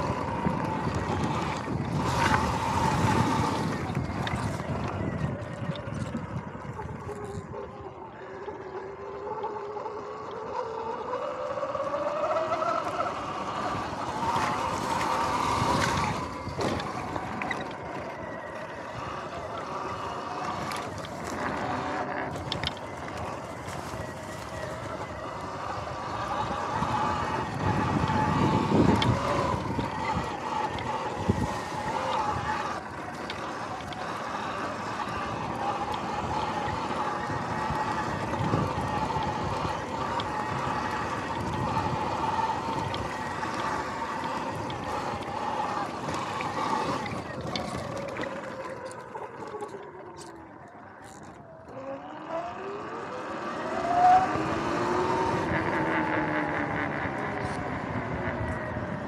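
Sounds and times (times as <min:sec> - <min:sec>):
electric motor whine: 0:00.0 - 0:59.0.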